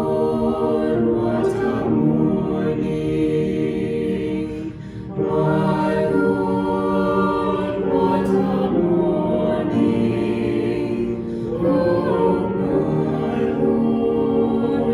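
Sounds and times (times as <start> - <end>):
choir singing long notes: 0.0 - 14.9.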